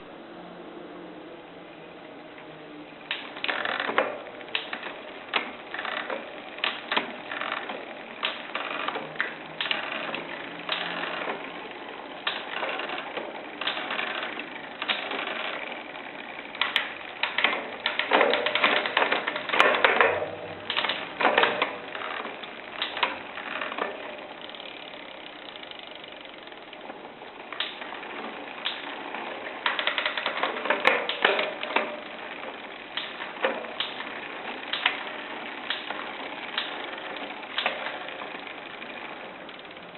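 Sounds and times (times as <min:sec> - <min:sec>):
bicycle derailleur creaking and clicking: 0:00.0 - 0:39.9.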